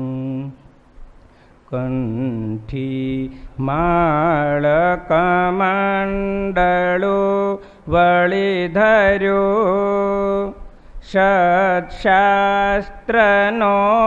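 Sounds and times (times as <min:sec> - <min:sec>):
man chanting: 0:01.7 - 0:14.0.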